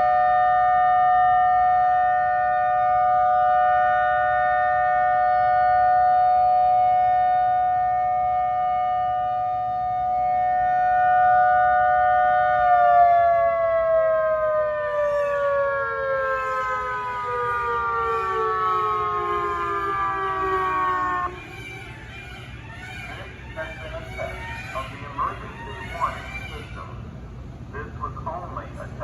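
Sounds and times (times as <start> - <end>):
two-tone warning siren wail: 0.0 - 27.8.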